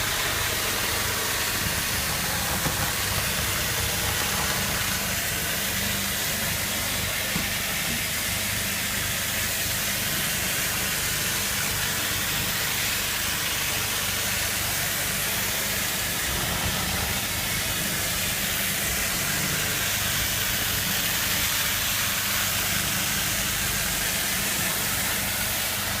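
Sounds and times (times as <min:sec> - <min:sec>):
pressure washer spray hissing: 0:00.0 - 0:26.0.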